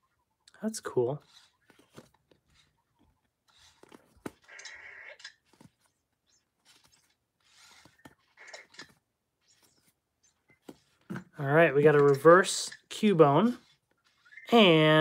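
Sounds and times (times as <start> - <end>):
trading cards rustling and flicking: 0.9 - 15.0.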